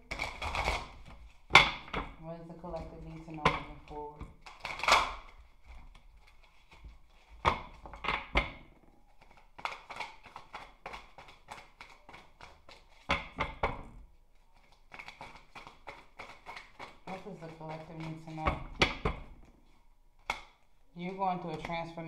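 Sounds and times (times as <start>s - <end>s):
cards being shuffled: 0.1s - 8.4s, 9.1s - 13.7s, 14.3s - 22.0s.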